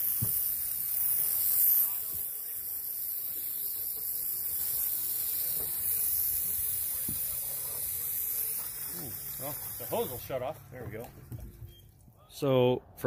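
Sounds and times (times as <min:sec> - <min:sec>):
garden hose spraying water: 0:00.0 - 0:11.6.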